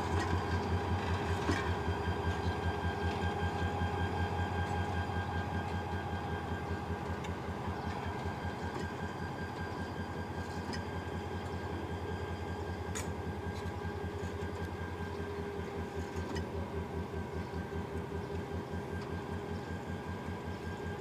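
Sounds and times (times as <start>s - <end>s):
faint steady whine: 0.0s - 21.0s
train rolling with low rumble: 0.0s - 21.0s.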